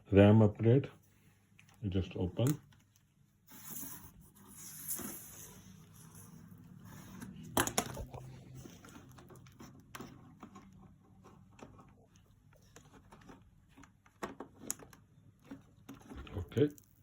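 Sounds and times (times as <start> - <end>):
rustling and scraping: 1.0 - 17.0.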